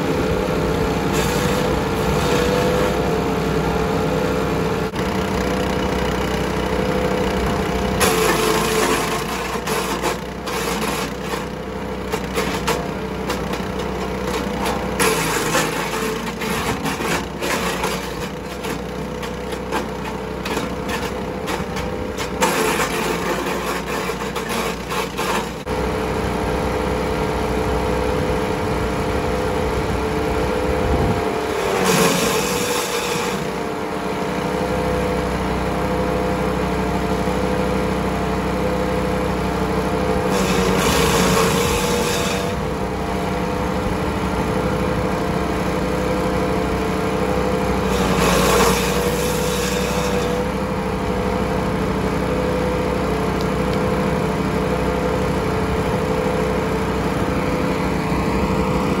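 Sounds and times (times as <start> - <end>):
wood chipper engine running: 0.0 - 59.0.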